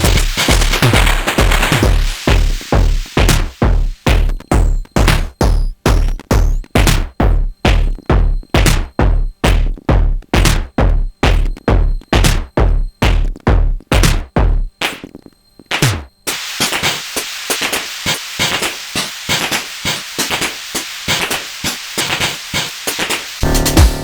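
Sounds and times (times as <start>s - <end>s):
drum machine kick drum: 0.0s - 15.1s, 15.7s - 24.0s
hissy hi-hat and percussion: 0.0s - 15.1s, 15.7s - 24.0s.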